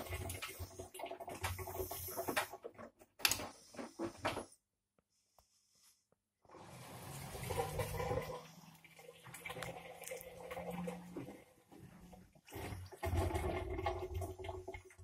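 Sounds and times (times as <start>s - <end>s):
water and clothes sloshing: 0.0s - 4.5s, 6.5s - 15.0s.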